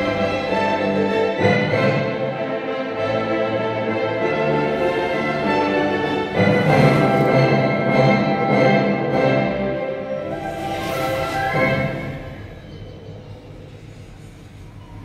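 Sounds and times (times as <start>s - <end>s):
orchestral music with bowed strings: 0.0s - 13.1s.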